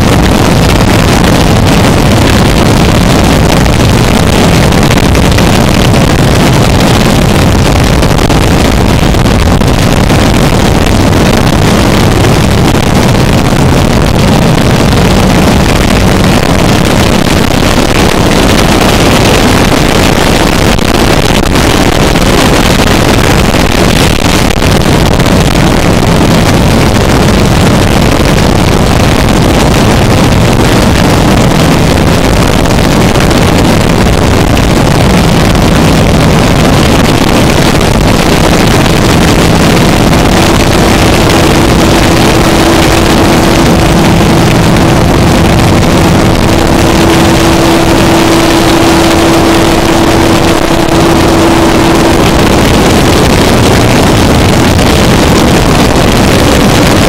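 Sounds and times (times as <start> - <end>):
low droning hum: 0.0 - 57.0
wall of distorted noise: 0.0 - 57.0.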